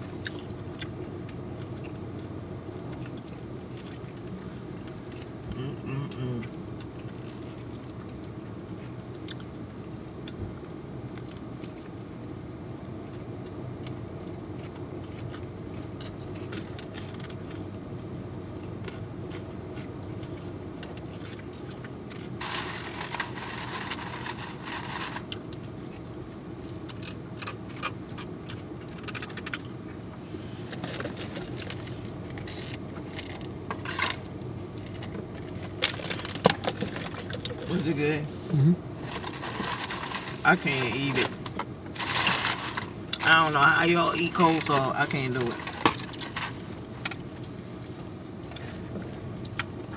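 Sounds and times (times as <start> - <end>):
chewing and crunching: 0.0 - 38.1, 38.9 - 49.9
low car cabin hum: 0.0 - 49.9.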